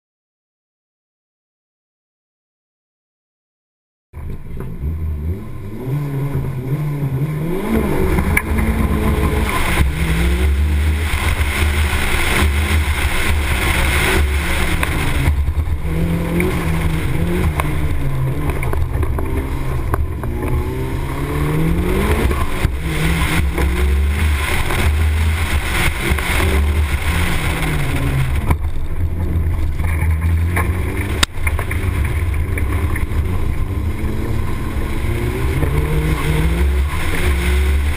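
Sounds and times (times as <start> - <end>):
car engine accelerating hard: 4.2 - 37.9
low wind rumble on microphone: 4.2 - 37.9.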